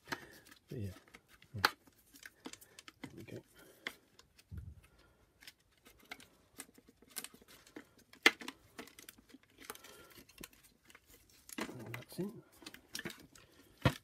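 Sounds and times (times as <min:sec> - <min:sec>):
plastic parts clicking and rattling: 0:00.0 - 0:14.0.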